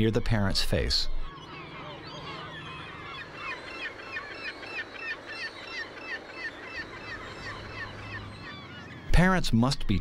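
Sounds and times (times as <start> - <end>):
gull chicks peeping: 0.0 - 10.0.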